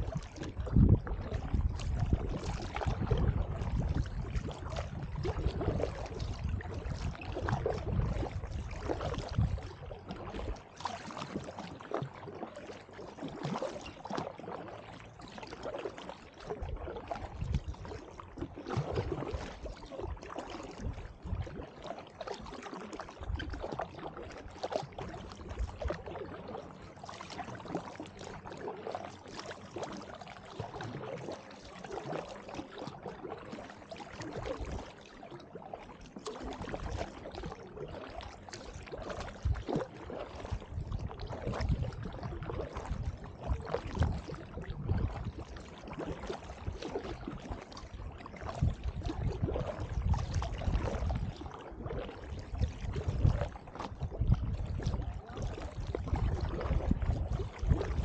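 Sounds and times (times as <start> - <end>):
paddles dipping through water: 0.0 - 58.0
water splashing and lapping: 0.0 - 58.0.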